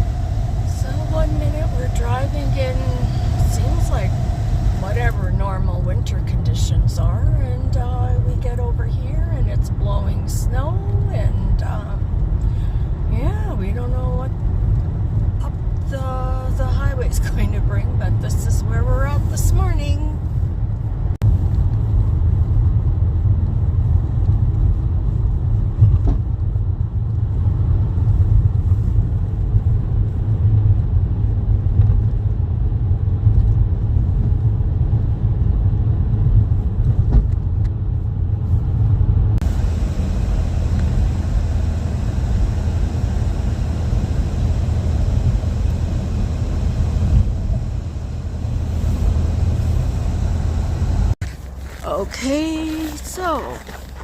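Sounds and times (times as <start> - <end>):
vehicle road rumble: 0.0 - 54.0.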